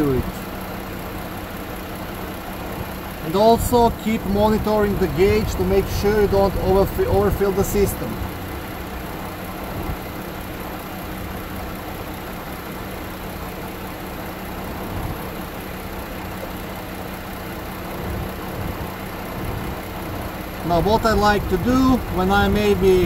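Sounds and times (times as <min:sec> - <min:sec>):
air conditioning fan: 0:00.0 - 0:23.0
car engine idling: 0:00.0 - 0:23.0.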